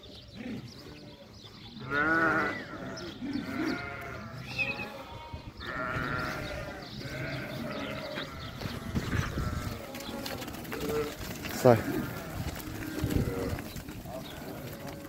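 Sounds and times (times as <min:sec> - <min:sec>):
sheep bleating: 0:01.8 - 0:15.0.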